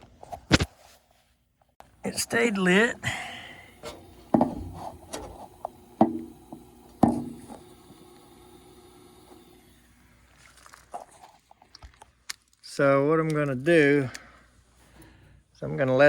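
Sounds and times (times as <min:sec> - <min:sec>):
faint steady hum: 0:01.8 - 0:16.0.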